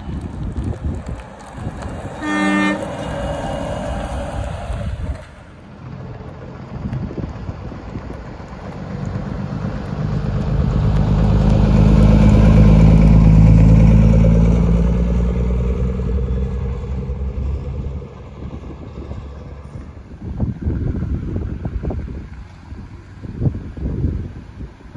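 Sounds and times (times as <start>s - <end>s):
truck diesel engine passing: 0.0s - 24.9s.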